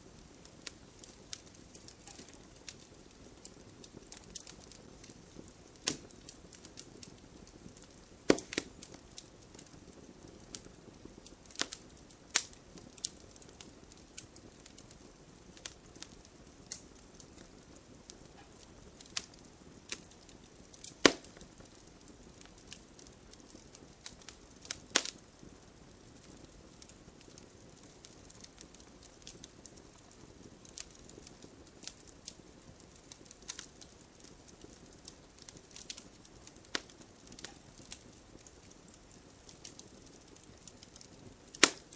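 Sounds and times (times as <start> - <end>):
fireplace fire crackling: 0.0 - 41.9.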